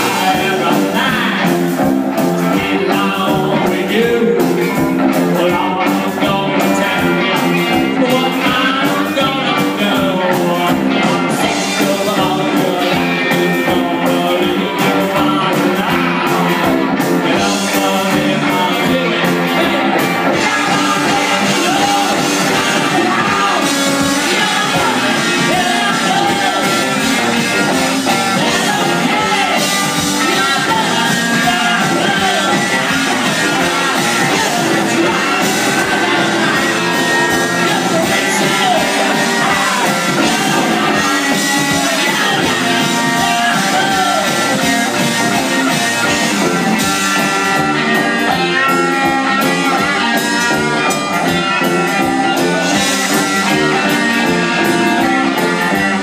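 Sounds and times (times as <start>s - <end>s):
electric guitar: 0.0s - 56.0s
person singing: 0.0s - 56.0s
rock band playing live: 0.0s - 56.0s.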